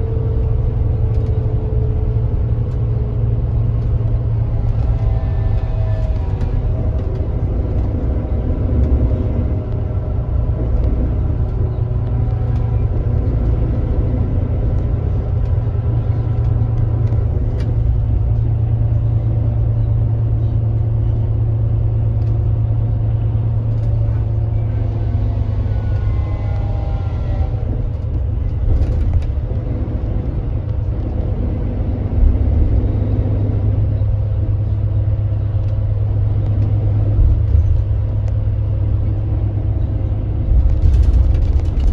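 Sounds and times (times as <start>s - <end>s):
coach diesel engine droning: 0.0s - 41.9s.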